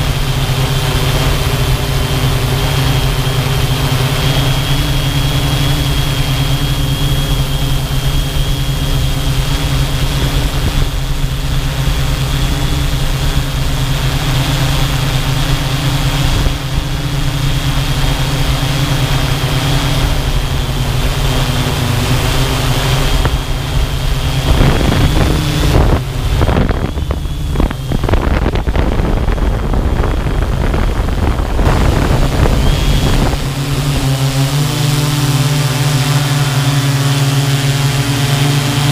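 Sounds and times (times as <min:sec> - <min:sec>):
small aircraft engine humming: 0:00.0 - 0:38.9
wind rush on microphone: 0:00.0 - 0:38.9.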